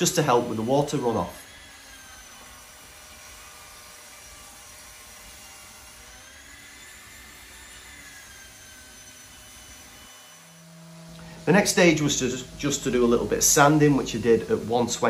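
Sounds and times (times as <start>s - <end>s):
table saw cutting wood: 0.0s - 15.0s.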